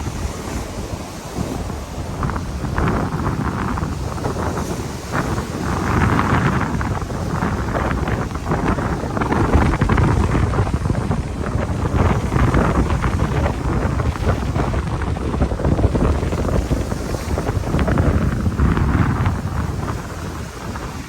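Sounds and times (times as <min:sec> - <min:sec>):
surf washing on beach: 0:00.0 - 0:21.0
wind buffeting microphone: 0:00.0 - 0:21.0.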